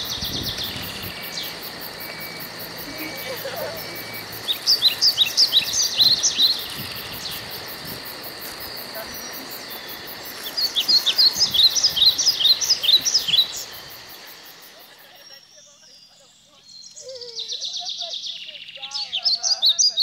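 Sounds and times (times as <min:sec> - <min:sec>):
steady high hiss: 0:00.0 - 0:19.5
songbird chirping: 0:00.0 - 0:20.0.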